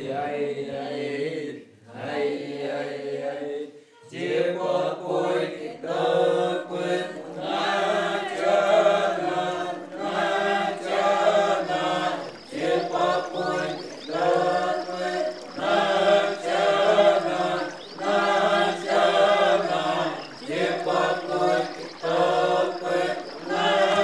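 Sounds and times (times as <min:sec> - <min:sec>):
voices chanting together: 0:00.0 - 0:24.0.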